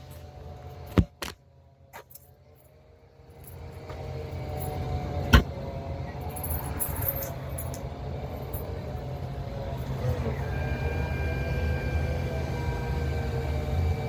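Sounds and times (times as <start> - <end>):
van exhaust low rumble: 0.0 - 14.0.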